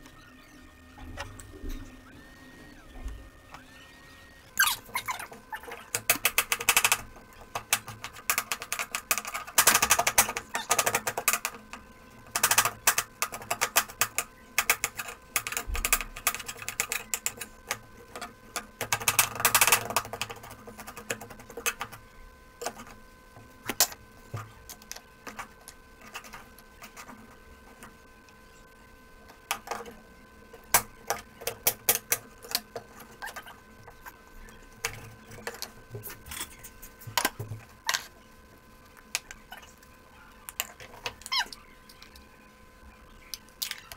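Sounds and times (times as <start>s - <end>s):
faint steady hum: 0.0s - 43.9s.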